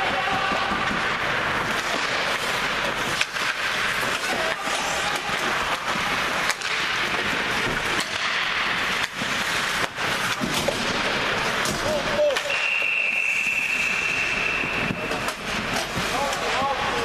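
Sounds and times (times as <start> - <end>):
hockey sticks and puck clacking: 0.0 - 17.0
skates scraping ice: 0.0 - 17.0.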